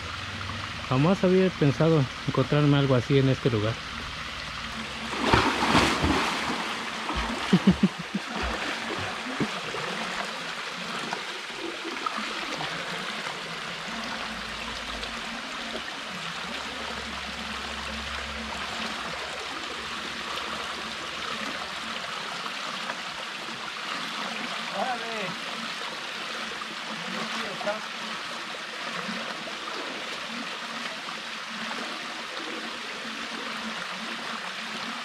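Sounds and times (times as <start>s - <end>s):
creek water running: 0.0s - 35.0s.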